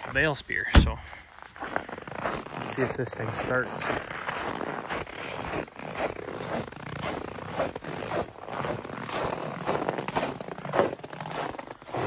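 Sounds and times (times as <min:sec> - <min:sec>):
footsteps crunching on snow: 0:01.0 - 0:12.0.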